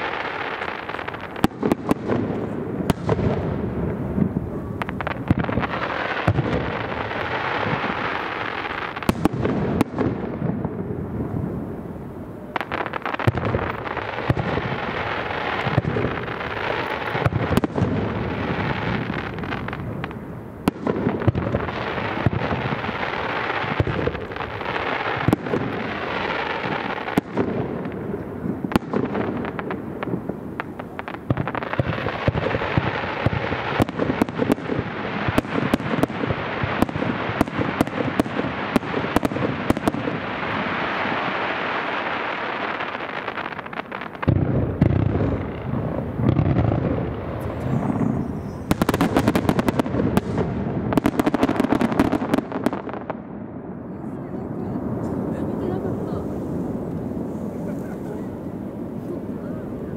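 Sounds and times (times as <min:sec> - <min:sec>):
deep firework booms: 0:00.0 - 0:59.9
firework crackling: 0:00.0 - 0:59.9
fireworks bursting: 0:00.0 - 0:59.9.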